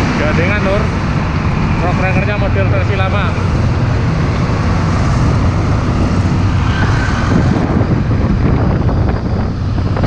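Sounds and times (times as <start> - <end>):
motorcycle engine droning: 0.0 - 10.0
truck passing close: 0.0 - 10.0
wind rush: 0.0 - 10.0.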